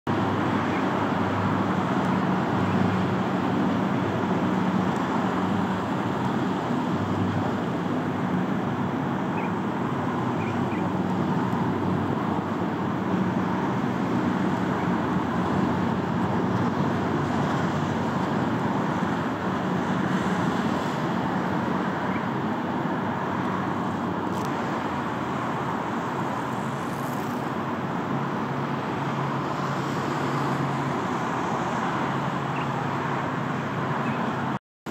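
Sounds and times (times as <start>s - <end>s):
motorboat engines droning: 0.1s - 34.9s
wash of noise: 0.1s - 34.9s.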